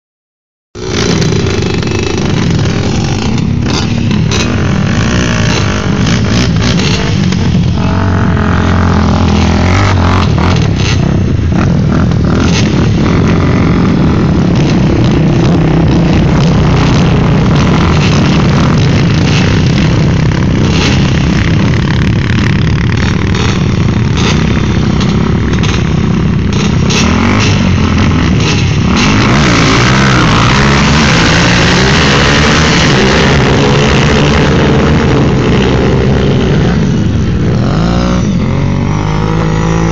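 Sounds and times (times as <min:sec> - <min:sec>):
quad engines idling and revving: 0:00.8 - 0:39.9.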